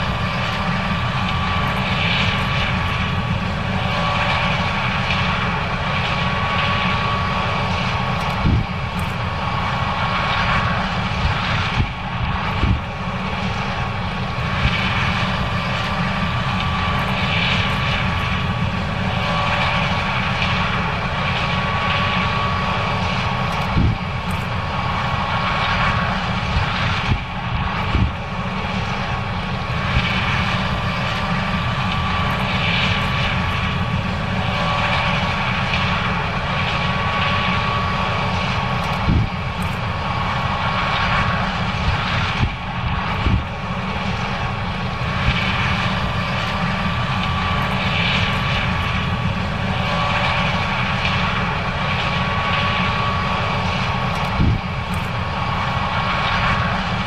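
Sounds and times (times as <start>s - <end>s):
combine engine drone: 0.0s - 57.0s
high machine whine: 0.0s - 57.0s.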